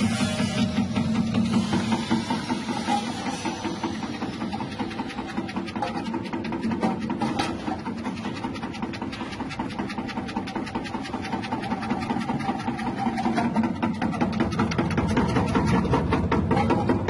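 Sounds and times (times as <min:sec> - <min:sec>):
slicing machine motor hum: 0:00.0 - 0:17.0.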